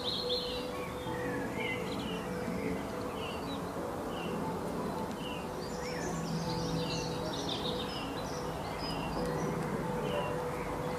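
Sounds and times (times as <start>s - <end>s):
background hiss: 0.0s - 10.9s
birds chirping: 0.0s - 10.9s.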